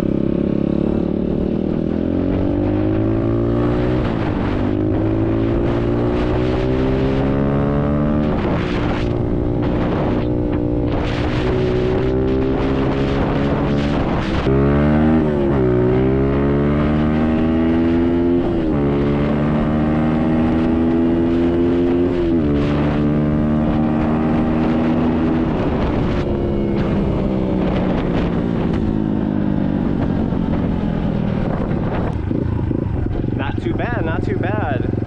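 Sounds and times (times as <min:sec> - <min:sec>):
dirt bike engine at full throttle: 0:00.0 - 0:35.0.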